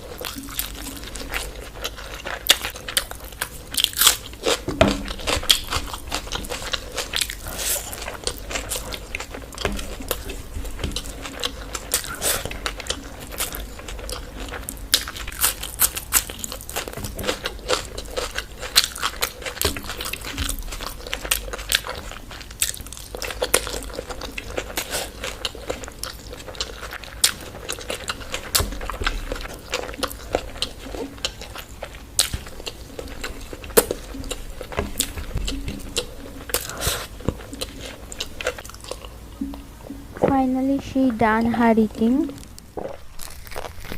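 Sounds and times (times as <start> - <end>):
person chewing food: 0.0 - 40.4, 42.3 - 43.9.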